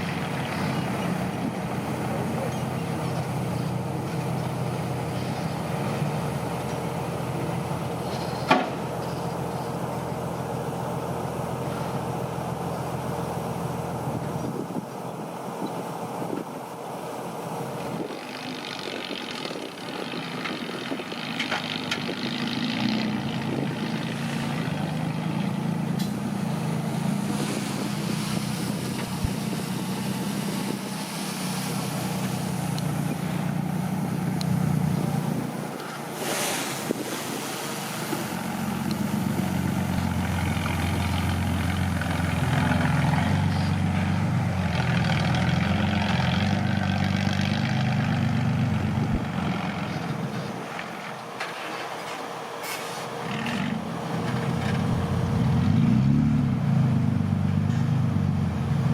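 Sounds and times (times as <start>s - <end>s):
bulldozer diesel engine working: 0.0s - 58.9s.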